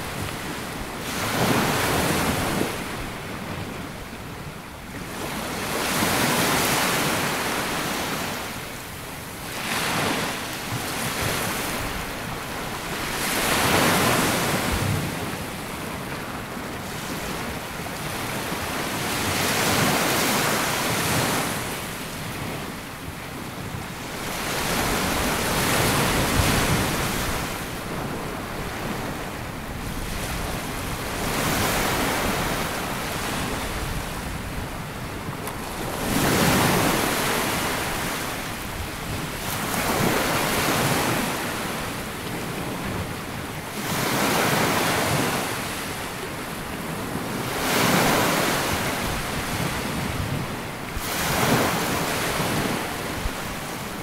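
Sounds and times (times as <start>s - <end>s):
waves breaking on beach: 0.0s - 54.0s
wind buffeting microphone: 9.2s - 54.0s.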